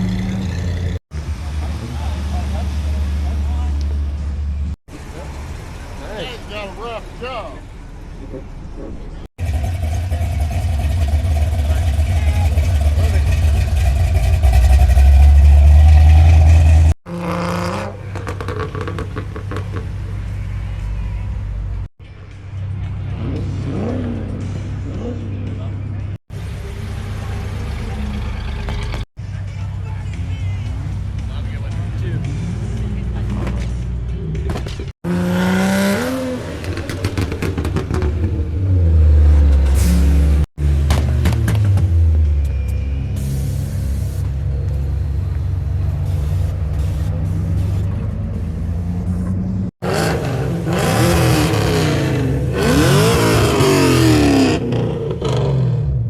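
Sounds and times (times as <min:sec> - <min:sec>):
car engine deep rumble: 0:00.0 - 0:21.9, 0:22.5 - 0:56.0.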